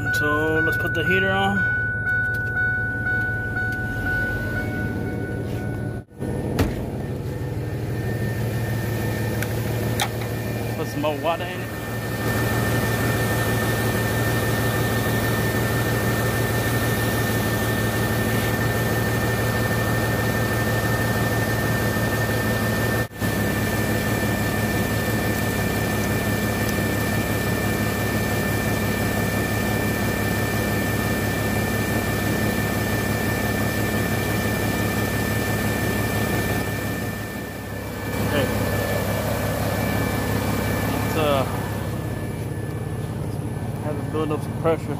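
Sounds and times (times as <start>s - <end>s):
engine running: 0.0s - 44.9s
radiator fans blowing: 0.0s - 44.9s.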